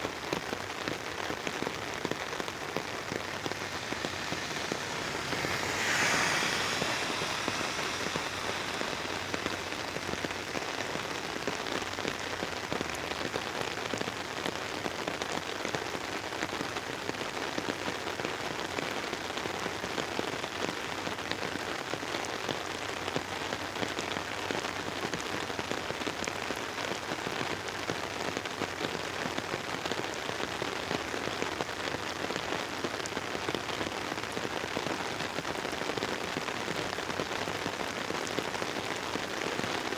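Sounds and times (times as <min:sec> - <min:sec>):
rain pattering on an umbrella: 0:00.0 - 0:18.1, 0:23.0 - 0:39.9.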